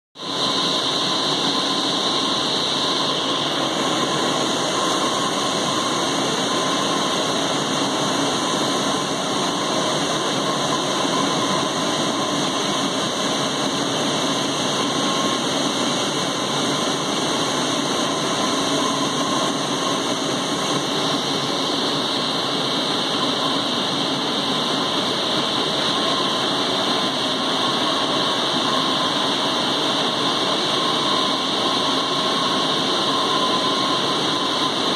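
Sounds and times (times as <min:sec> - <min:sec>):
faint high whine: 0:00.2 - 0:34.9.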